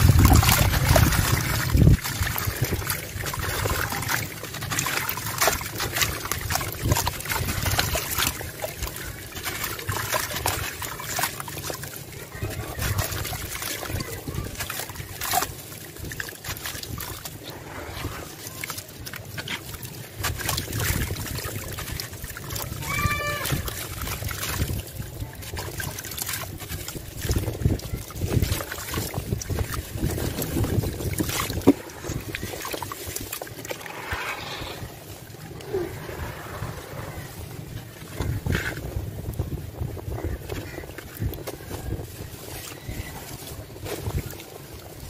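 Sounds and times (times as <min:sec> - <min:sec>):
hands sloshing in water: 0:00.0 - 0:45.0.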